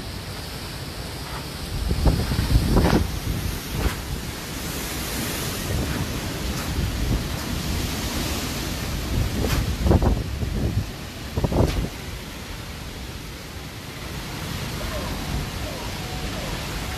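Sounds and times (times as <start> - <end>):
strong wind buffeting microphone: 0.9 - 16.9.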